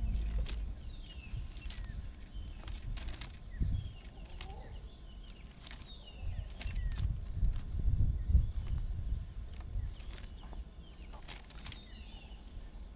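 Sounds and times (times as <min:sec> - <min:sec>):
birds chirping: 0:00.0 - 0:12.9
high insect drone: 0:00.0 - 0:12.9.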